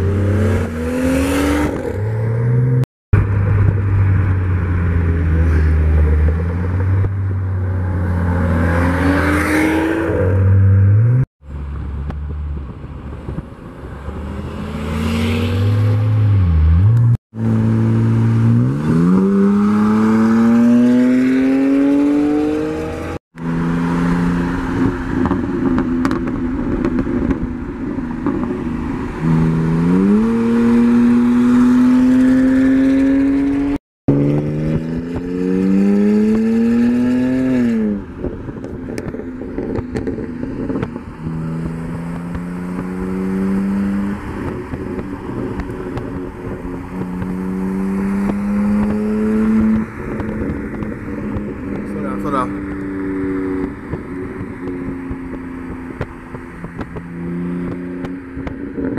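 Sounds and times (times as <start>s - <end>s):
car engines at full throttle: 0.0s - 58.9s.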